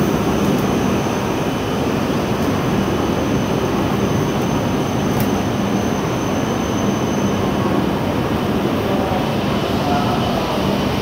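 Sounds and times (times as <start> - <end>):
train running gear noise: 0.0 - 11.0.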